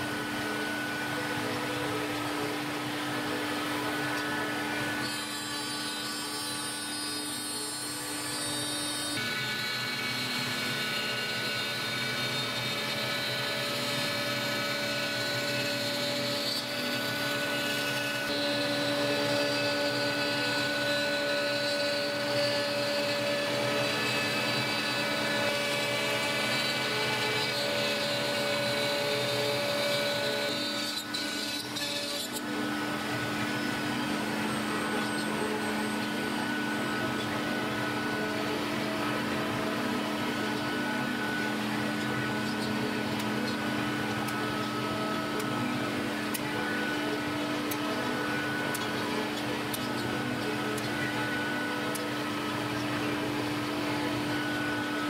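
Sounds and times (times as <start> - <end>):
router spindle whining: 0.0 - 55.0.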